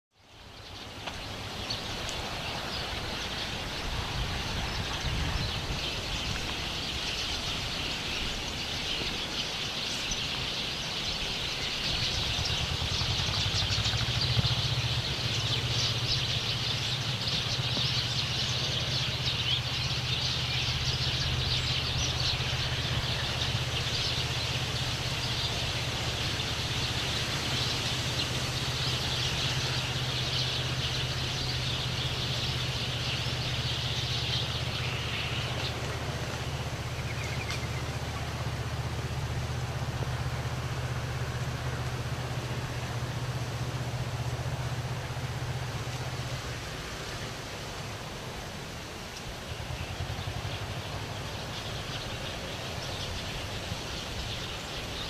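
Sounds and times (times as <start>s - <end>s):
expressway traffic rumble: 0.1s - 55.0s
small birds chirping: 0.1s - 55.0s.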